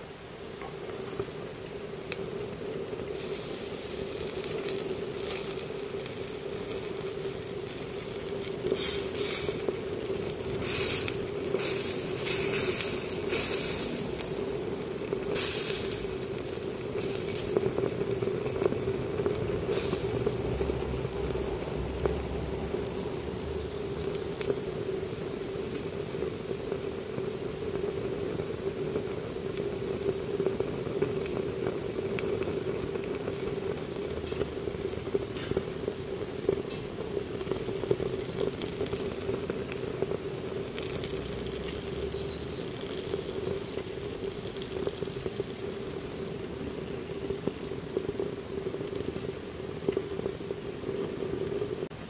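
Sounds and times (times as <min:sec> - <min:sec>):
small crackles and pops: 0:00.4 - 0:52.0.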